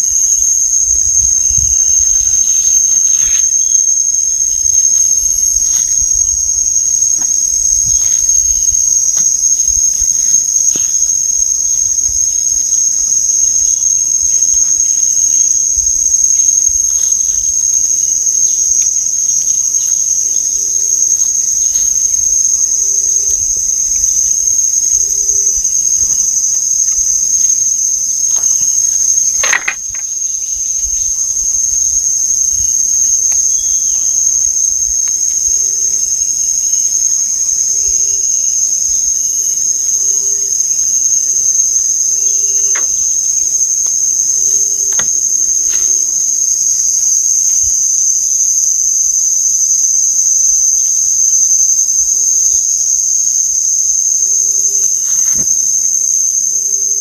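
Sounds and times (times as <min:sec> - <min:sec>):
insects shrilling: 0:00.0 - 0:57.0.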